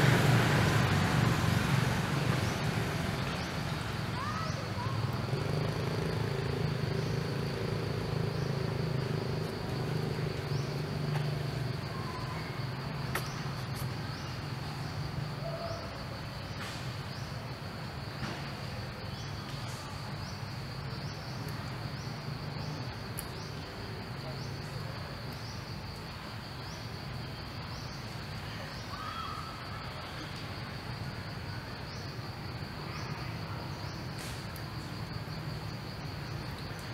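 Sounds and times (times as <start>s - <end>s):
short insect chirps: 2.4s - 36.9s.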